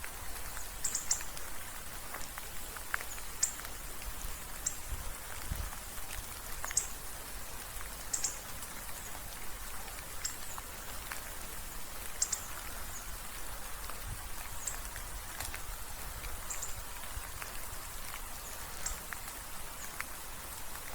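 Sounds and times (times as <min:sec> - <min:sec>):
light rain hiss: 0:00.0 - 0:20.9
raindrops ticking: 0:00.0 - 0:20.9.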